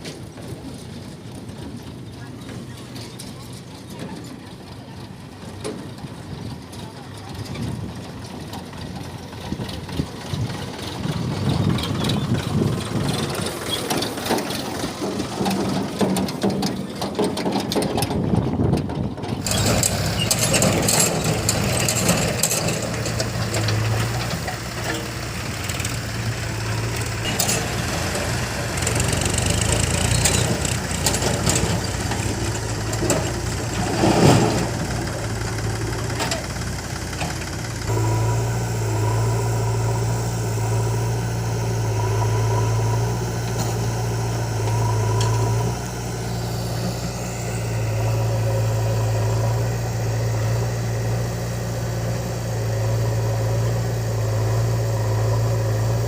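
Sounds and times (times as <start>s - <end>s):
heavy diesel machinery running: 0.0s - 56.0s
low engine note: 0.0s - 56.0s.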